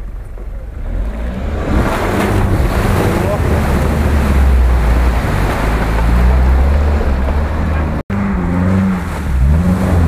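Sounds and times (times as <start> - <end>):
off-road engines pulling: 0.0 - 10.0
water and mud splashing: 0.0 - 10.0
engine revving: 0.8 - 10.0.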